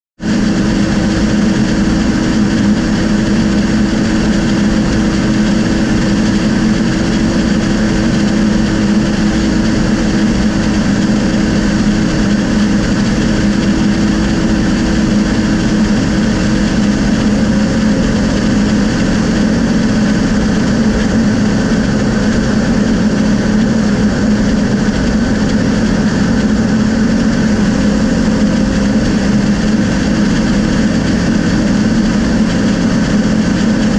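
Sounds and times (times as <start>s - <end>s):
light aircraft engine droning: 0.2s - 33.9s.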